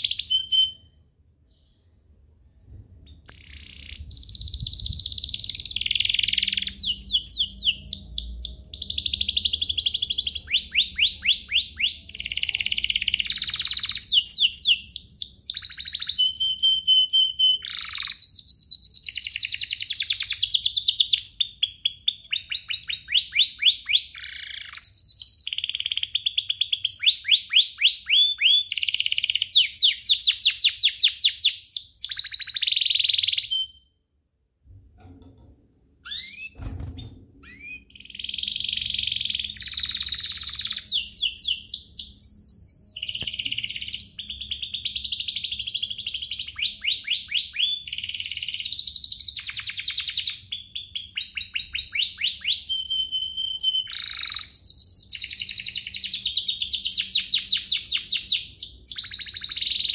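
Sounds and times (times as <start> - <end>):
canary singing trills: 0.0 - 1.0, 3.0 - 33.9, 36.0 - 59.9.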